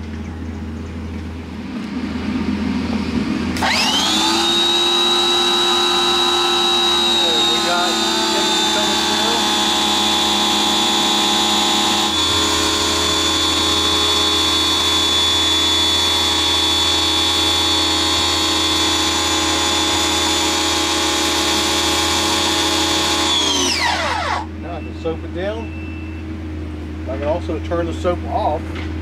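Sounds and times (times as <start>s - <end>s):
pressure washer motor whining: 1.5s - 29.0s.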